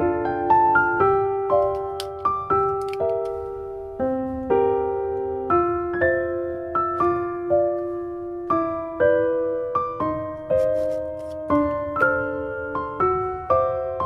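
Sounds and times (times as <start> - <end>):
gentle keyboard melody: 0.0 - 14.0.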